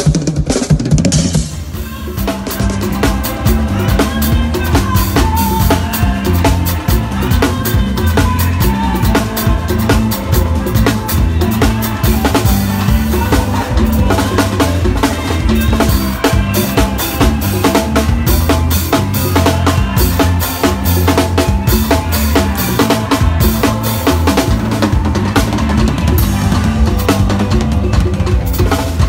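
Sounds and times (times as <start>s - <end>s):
fast drum kit playing: 0.0s - 29.0s
bass line low notes: 1.6s - 29.0s.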